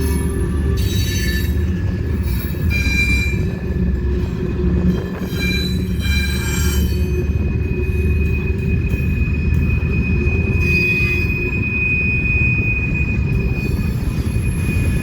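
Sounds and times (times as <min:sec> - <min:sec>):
steel wheel squeal: 0:00.0 - 0:15.0
train wheels rumbling on rails: 0:00.0 - 0:15.0.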